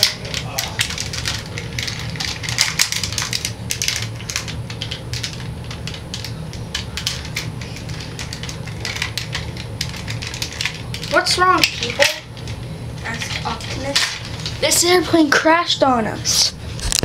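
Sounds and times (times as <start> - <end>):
toys clicking and rattling: 0.0 - 15.6
low hum: 0.0 - 17.0.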